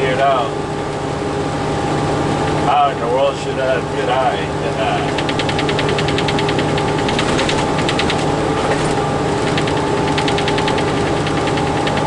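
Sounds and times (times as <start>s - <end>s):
truck engine drone: 0.0s - 12.0s
rapid rattle in truck cab: 2.1s - 12.0s.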